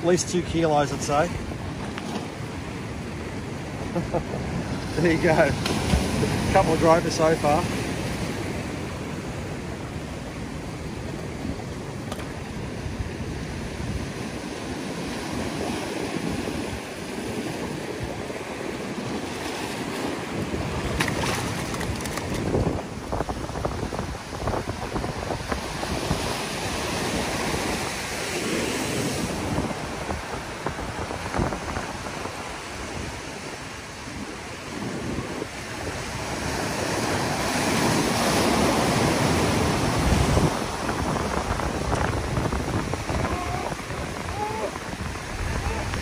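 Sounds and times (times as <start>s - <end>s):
ocean surf breaking on rocks: 0.0s - 46.0s
wind buffeting microphone: 0.0s - 46.0s.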